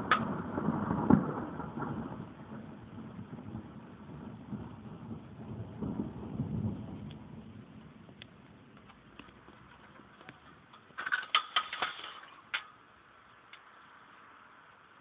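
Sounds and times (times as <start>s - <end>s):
low hiss: 2.0s - 15.0s.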